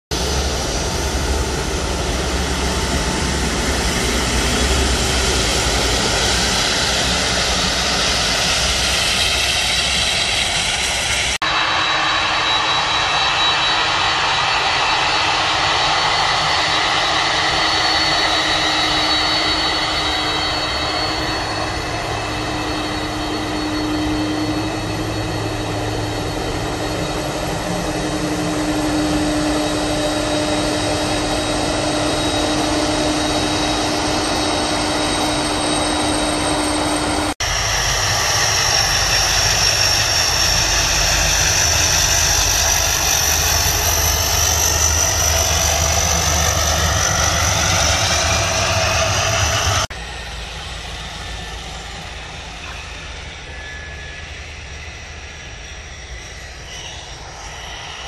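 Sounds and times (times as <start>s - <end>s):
jet engines whining and rushing: 0.1s - 58.0s.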